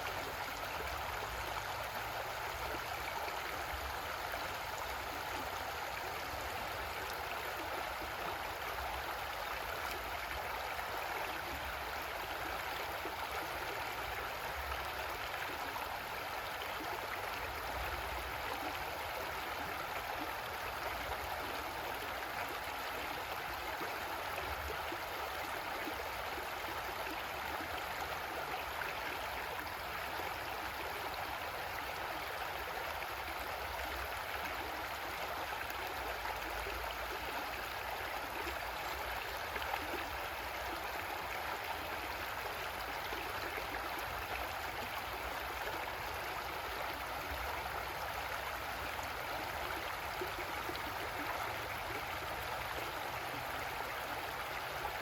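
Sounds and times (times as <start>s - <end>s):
creek water gurgling over rocks: 0.0s - 55.0s.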